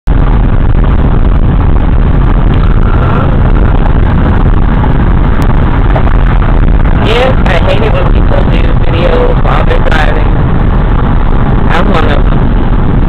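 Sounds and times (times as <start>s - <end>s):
wind rushing through car window: 0.0s - 13.0s
road noise: 0.1s - 13.0s.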